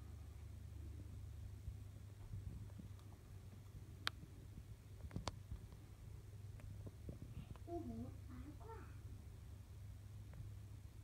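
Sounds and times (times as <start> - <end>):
faint low rumble: 0.0 - 11.0.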